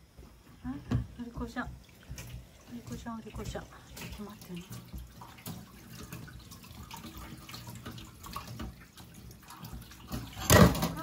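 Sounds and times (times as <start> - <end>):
small clicks and drips: 0.7 - 11.0
tap running into sink: 0.8 - 11.0.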